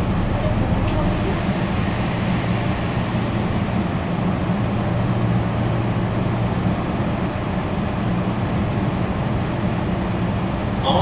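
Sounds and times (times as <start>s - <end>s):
electric train running: 0.0s - 8.9s.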